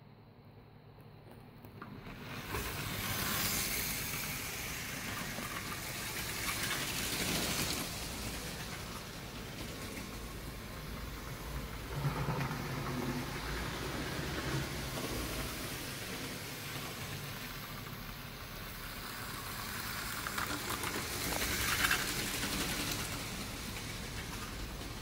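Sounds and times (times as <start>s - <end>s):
model trains rumbling on track: 1.8s - 25.0s.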